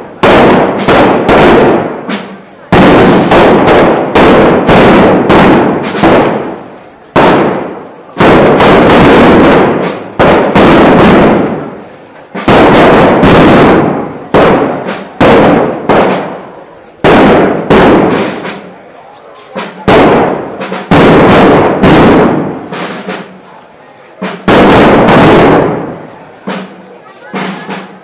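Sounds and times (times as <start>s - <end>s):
loud explosive bangs echoing: 0.0s - 18.8s, 19.6s - 23.4s, 24.2s - 28.0s.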